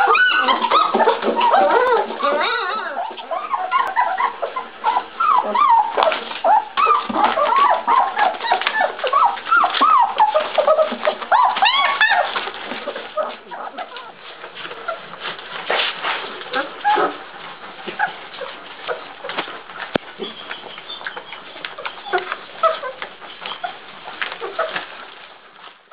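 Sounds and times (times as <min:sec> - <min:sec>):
puppies whining and squealing: 0:00.0 - 0:25.9.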